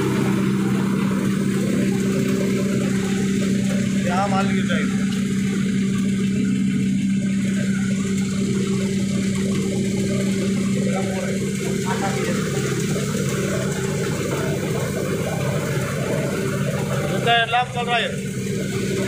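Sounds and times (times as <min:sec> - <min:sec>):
grinding machine drone and hiss: 0:00.0 - 0:19.0.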